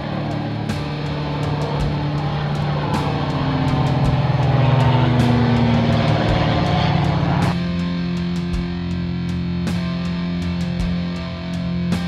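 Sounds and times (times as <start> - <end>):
background music with beat: 0.0 - 12.0
propeller plane droning: 0.0 - 12.0.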